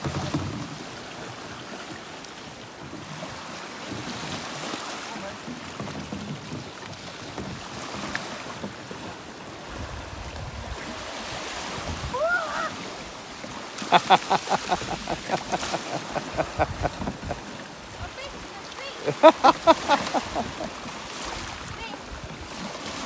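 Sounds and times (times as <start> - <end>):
waves washing over shingle: 0.0 - 23.0.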